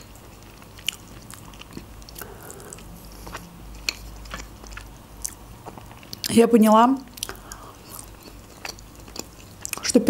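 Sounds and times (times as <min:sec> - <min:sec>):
person chewing: 0:00.0 - 0:06.3, 0:07.1 - 0:10.0.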